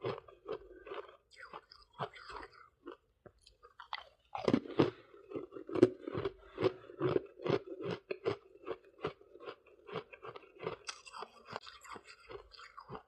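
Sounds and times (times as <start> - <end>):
chewing crunchy frost: 0.0 - 13.0.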